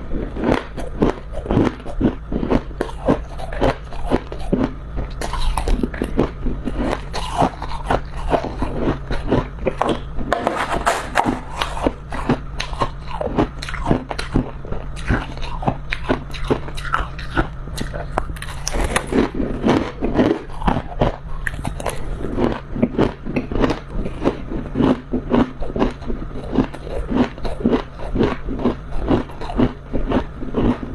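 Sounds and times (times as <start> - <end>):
crunching frost being chewed: 0.0 - 30.9
steady low hum: 0.0 - 30.9.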